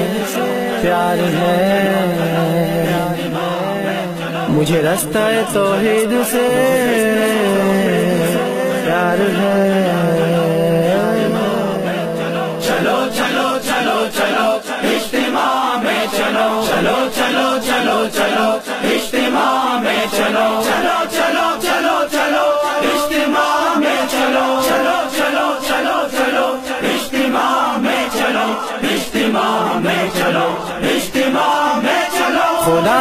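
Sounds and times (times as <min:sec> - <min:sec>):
men chanting in chorus: 0:00.0 - 0:33.0.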